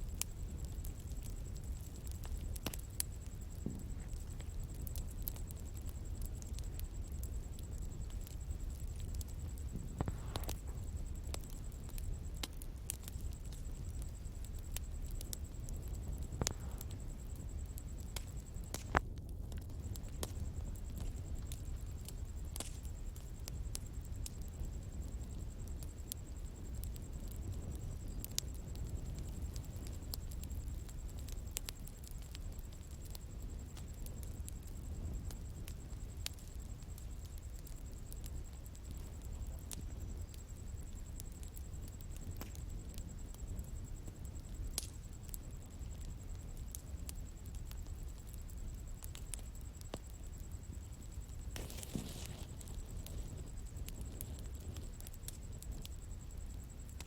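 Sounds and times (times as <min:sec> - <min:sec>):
bonfire crackling and popping: 0:00.0 - 0:57.0
flames rumbling: 0:00.0 - 0:57.0.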